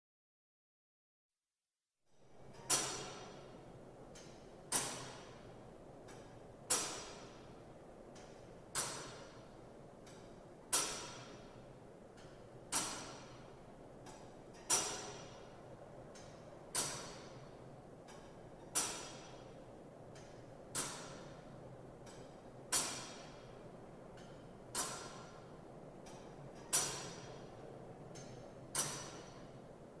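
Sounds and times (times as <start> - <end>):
low hiss: 2.2 - 30.0
clock mechanism ticking: 2.5 - 29.6.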